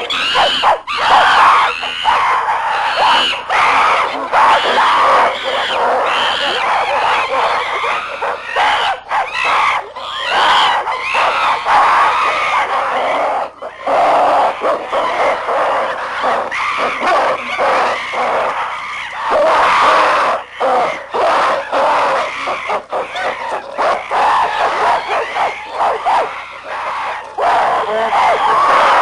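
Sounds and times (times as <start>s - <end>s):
apes calling: 0.0s - 29.0s.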